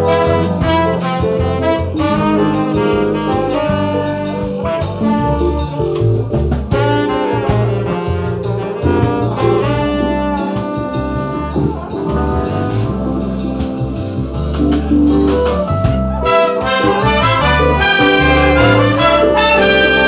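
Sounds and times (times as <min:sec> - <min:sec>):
jazz big band playing: 0:00.0 - 0:20.0.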